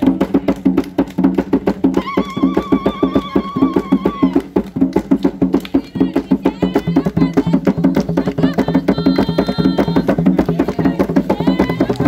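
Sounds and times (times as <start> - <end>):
hand drums beating fast rhythm: 0.0 - 12.0.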